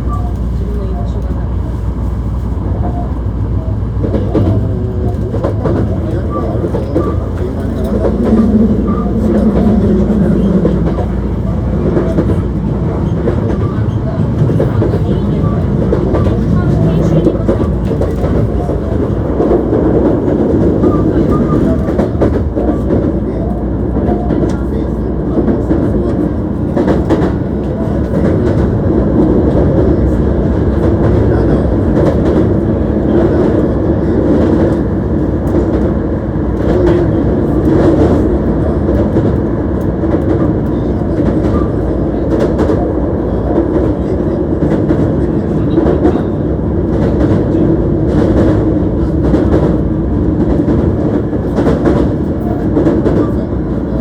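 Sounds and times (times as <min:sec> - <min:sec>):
rail joint clicks: 0:00.0 - 0:54.0
train wheels rumbling on rail: 0:00.0 - 0:54.0.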